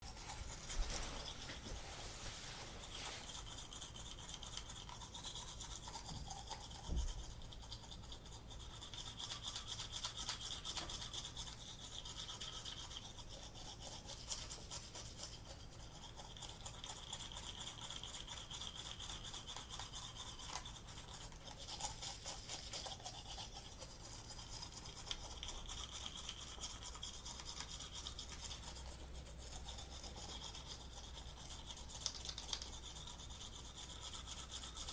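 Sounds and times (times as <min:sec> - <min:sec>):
toothbrush scrubbing teeth: 0:00.0 - 0:34.9.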